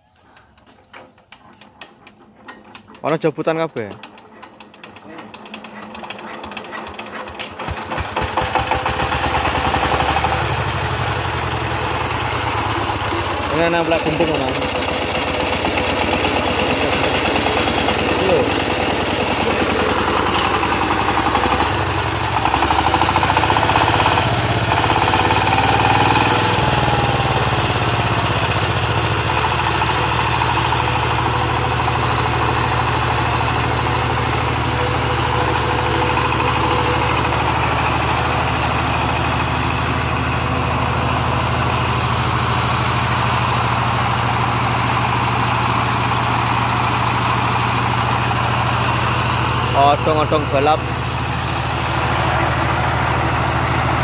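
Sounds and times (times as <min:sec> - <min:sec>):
diesel generator running: 0:00.0 - 0:54.0.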